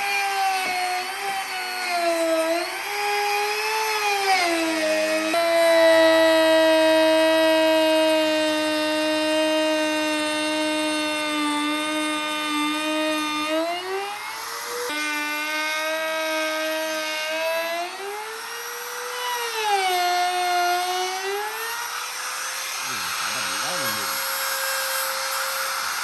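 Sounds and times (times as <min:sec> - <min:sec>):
power tool motor whining: 0:00.0 - 0:26.0.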